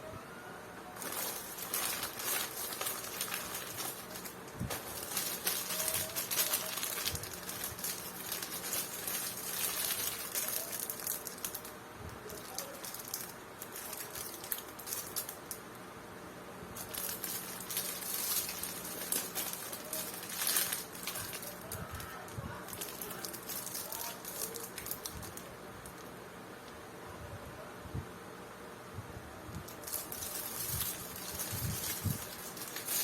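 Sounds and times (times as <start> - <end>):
faint steady hum: 0.0 - 33.0
plastic packaging crinkling: 1.0 - 15.6, 16.7 - 26.1, 29.6 - 33.0.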